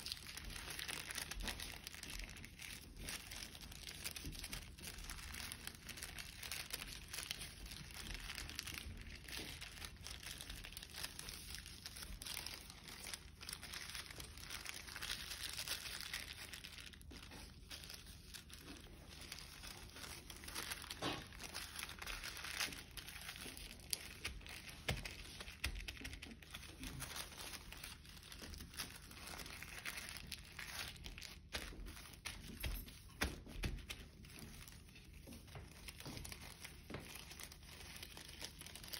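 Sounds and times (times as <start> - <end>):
paper crinkling and rustling: 0.0 - 38.9.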